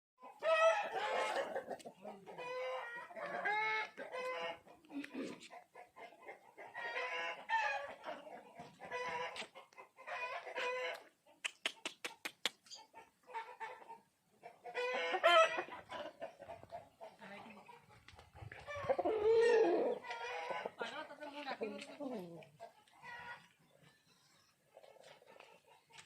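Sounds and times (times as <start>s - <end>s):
chickens clucking and calling: 0.2s - 26.0s.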